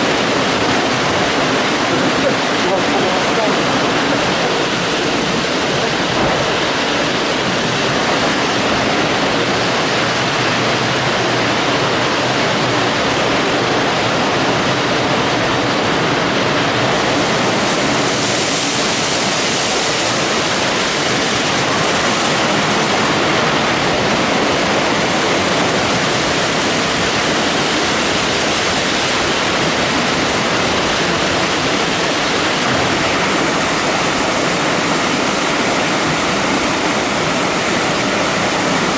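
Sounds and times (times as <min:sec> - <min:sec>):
car wash water spraying: 0:00.0 - 0:38.9.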